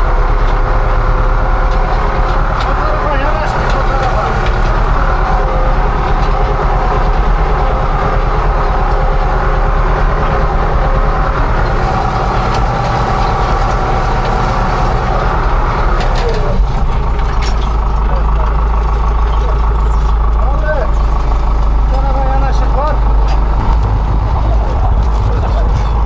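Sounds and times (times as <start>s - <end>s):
rhythmic mechanical clatter: 0.0s - 26.0s
tractor engine running under load: 0.0s - 26.0s.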